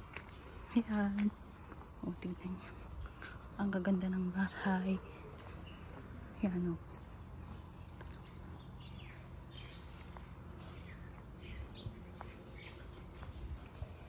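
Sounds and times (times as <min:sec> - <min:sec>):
birds chirping: 0:00.0 - 0:14.0
faint street background: 0:00.0 - 0:14.0.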